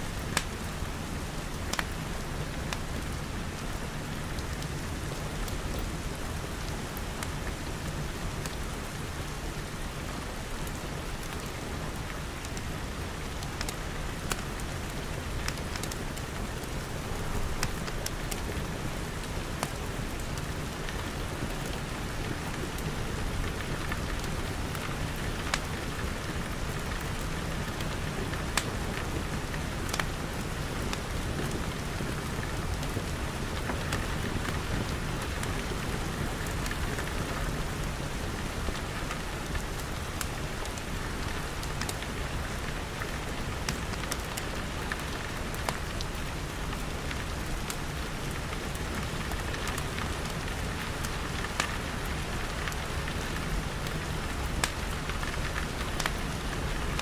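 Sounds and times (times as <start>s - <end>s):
wood fire crackling: 0.2s - 57.0s
rain pattering on glass: 6.6s - 57.0s.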